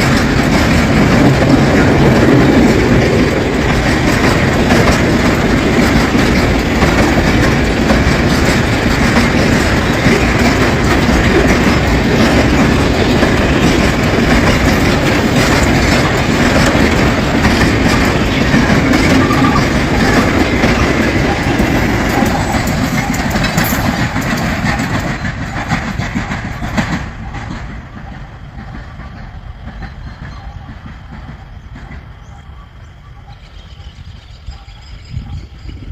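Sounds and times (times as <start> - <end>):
train wheels clacking over rail joints: 0.0 - 35.9.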